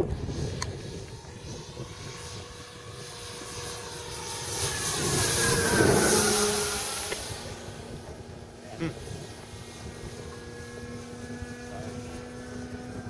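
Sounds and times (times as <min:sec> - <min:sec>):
model plane motor whining fly-by: 0:00.0 - 0:13.0.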